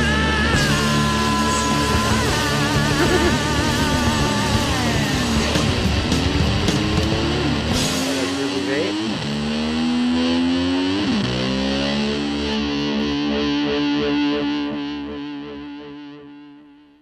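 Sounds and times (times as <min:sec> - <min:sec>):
rock song with distorted guitar: 0:00.0 - 0:17.0.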